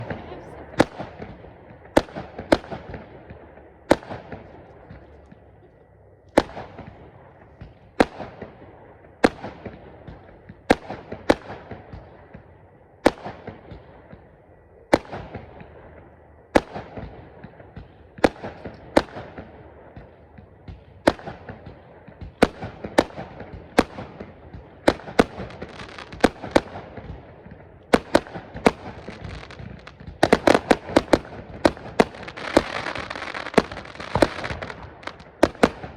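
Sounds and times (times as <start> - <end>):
fireworks bangs echoing: 0.0 - 5.7, 6.3 - 35.9.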